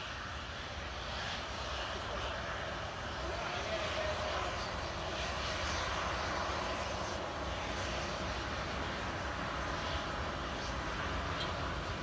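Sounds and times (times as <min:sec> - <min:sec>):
jet engines taxiing: 0:00.0 - 0:12.0.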